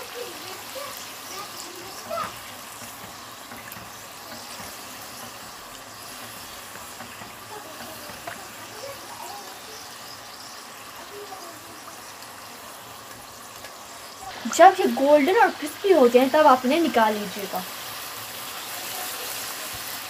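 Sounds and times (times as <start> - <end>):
oil sizzling with crackles: 0.0 - 20.0.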